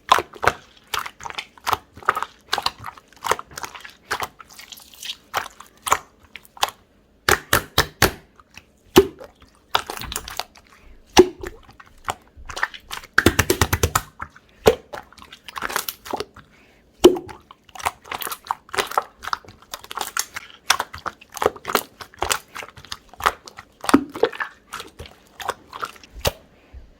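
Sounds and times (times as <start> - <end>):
slime squelching and popping: 0.0 - 26.5.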